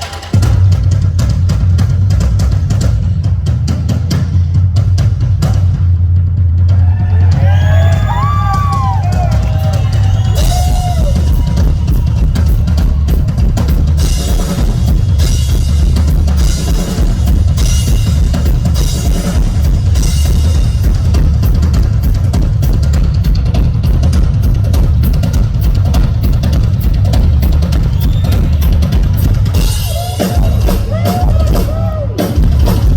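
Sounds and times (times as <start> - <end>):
rock drum kit solo: 0.0 - 32.9.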